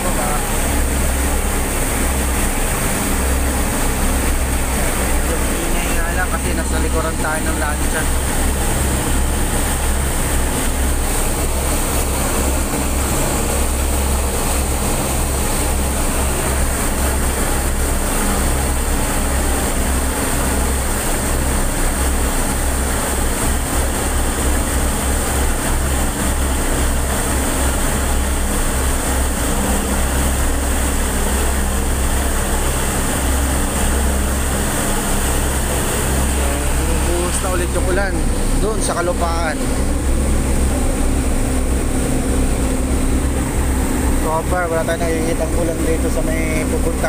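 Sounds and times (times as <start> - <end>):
propeller wake rushing: 0.0 - 47.0
ship engines droning: 0.0 - 47.0.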